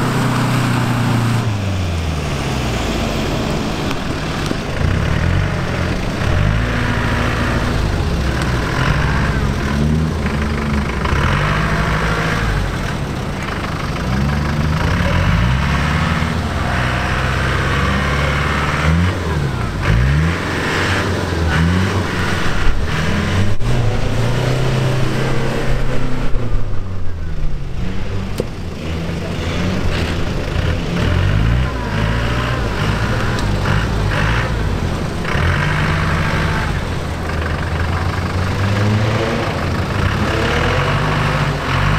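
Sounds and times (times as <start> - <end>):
vehicle engine revving: 0.0 - 41.9.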